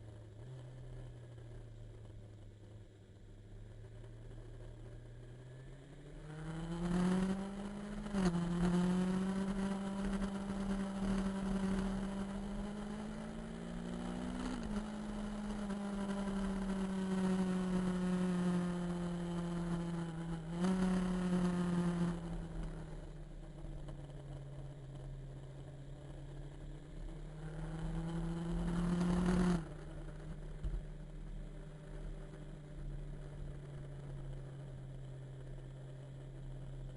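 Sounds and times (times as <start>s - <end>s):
motorcycle engine accelerating: 3.6s - 36.9s.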